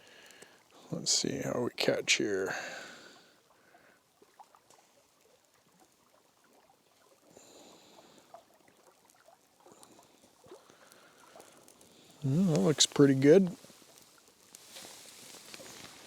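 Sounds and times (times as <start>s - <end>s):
campfire kindling crackling: 0.0s - 16.0s.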